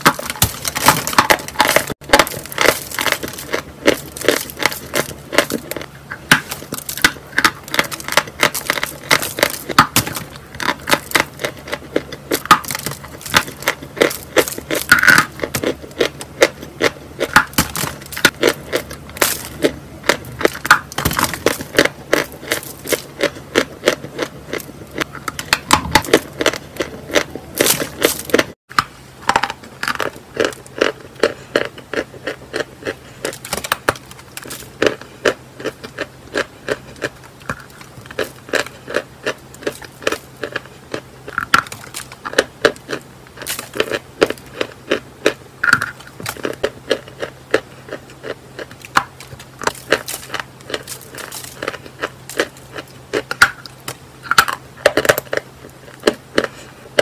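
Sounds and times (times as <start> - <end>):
chalk being crunched and chewed: 0.0 - 28.5, 29.8 - 57.0.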